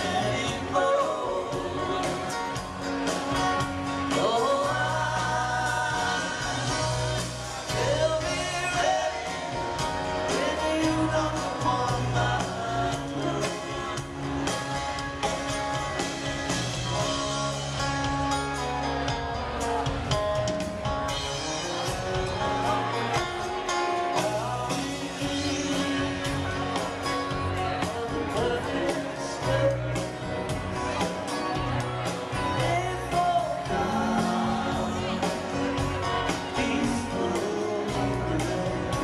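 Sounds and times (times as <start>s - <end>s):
man singing: 0.0s - 16.1s, 21.1s - 39.0s
live string band playing: 0.0s - 39.0s.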